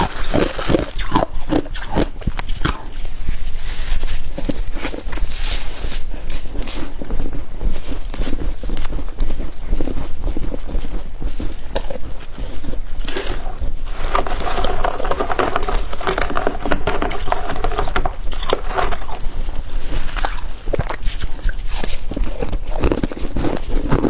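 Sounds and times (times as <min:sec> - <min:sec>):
frost crunching and crackling: 0:00.0 - 0:24.0.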